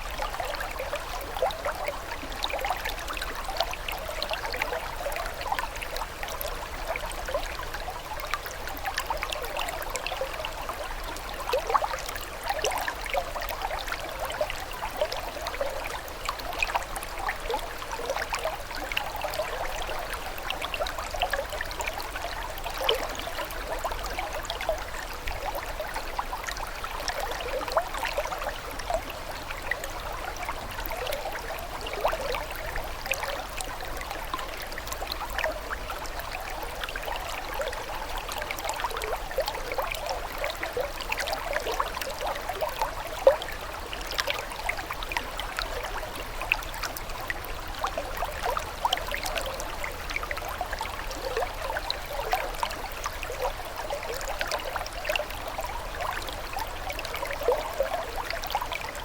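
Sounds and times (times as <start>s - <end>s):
water trickling and babbling: 0.0s - 59.0s.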